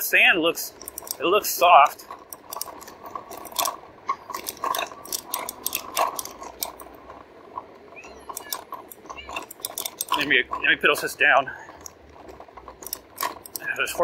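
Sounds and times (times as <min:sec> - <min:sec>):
bike rattling and clinking: 0:00.0 - 0:14.0
small metallic clicks: 0:00.7 - 0:14.0.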